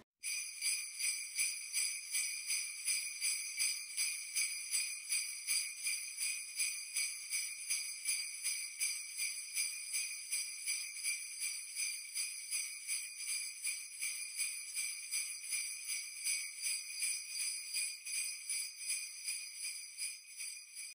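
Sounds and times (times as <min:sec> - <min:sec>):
sleigh bells jingling: 0:00.2 - 0:21.0.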